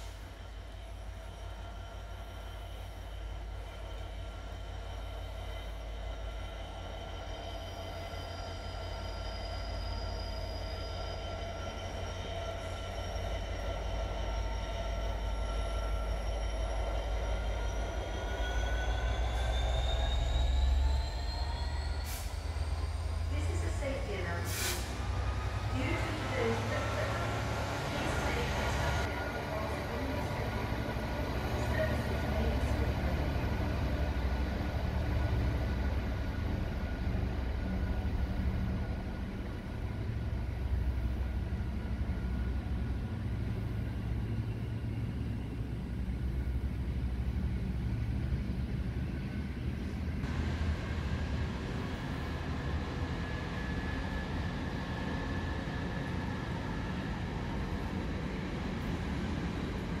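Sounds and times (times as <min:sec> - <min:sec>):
train low rumble: 0:00.0 - 1:00.0.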